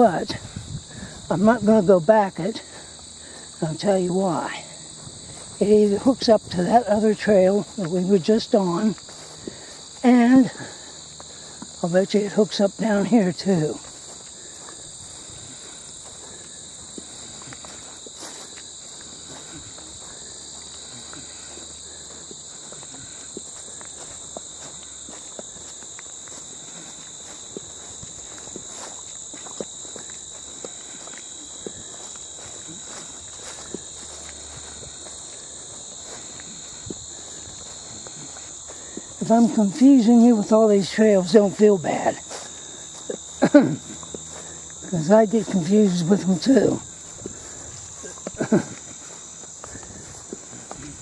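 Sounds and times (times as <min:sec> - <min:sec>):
footsteps on a trail: 0:00.0 - 0:51.0
insects droning: 0:00.0 - 0:51.0.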